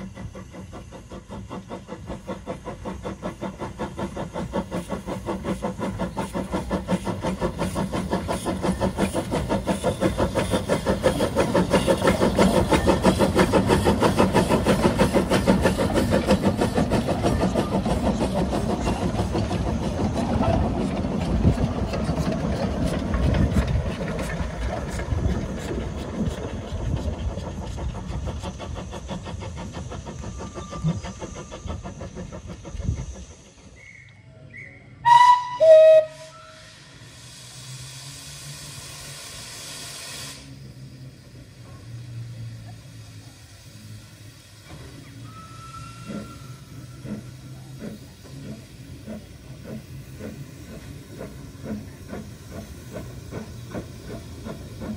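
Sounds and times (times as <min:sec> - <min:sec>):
steam locomotive exhaust beating: 0:00.0 - 0:54.9.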